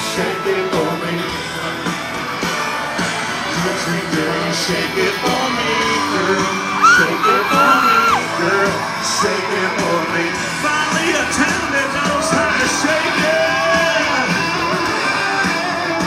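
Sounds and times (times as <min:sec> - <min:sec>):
live country band with singing: 0:00.0 - 0:16.0
crowd yells and whoops: 0:02.4 - 0:16.0.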